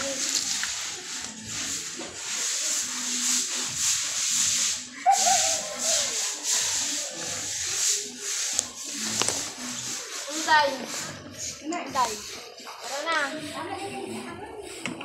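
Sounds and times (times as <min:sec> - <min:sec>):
brush scrubbing wet concrete: 0:00.0 - 0:15.0.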